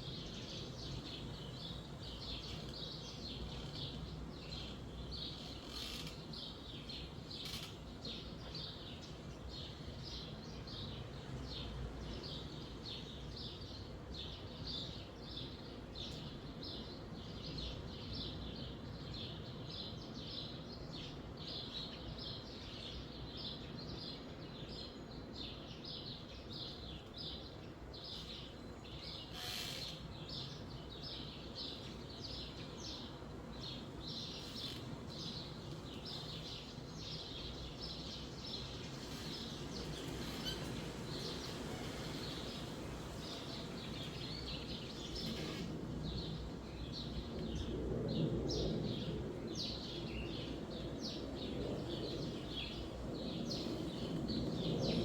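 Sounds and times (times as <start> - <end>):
small birds chirping: 0.0 - 20.6, 21.5 - 55.0
wind in the trees: 0.0 - 55.0.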